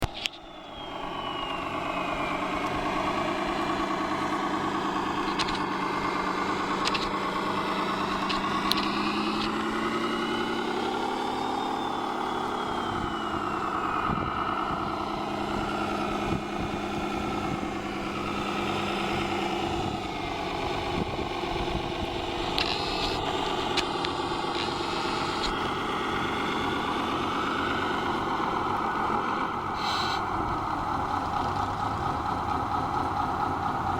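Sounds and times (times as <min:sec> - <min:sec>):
low hum: 0:00.0 - 0:33.0
model truck motor whine: 0:00.0 - 0:33.9.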